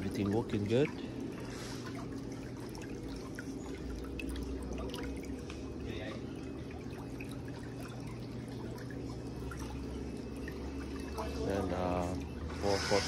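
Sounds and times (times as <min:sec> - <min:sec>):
low machine hum: 0:00.0 - 0:13.0
water pouring and trickling: 0:00.0 - 0:13.0.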